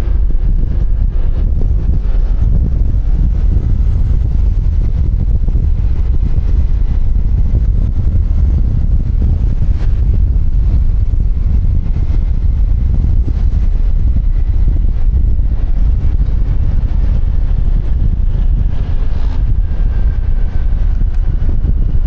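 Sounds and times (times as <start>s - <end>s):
road noise: 0.0s - 22.0s
scooter engine: 0.0s - 22.0s
wind buffeting microphone: 0.0s - 22.0s.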